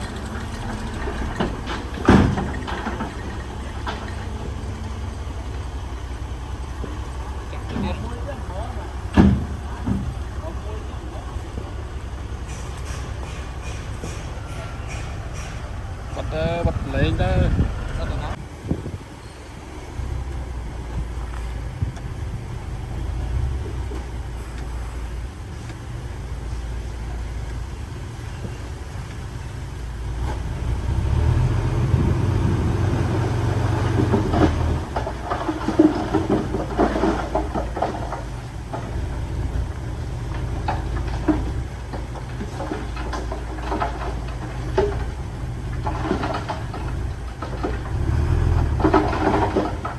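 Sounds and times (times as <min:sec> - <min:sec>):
knocks and clatter: 0:00.0 - 0:18.4, 0:28.2 - 0:49.9
diesel machinery rumbling: 0:00.0 - 0:49.9.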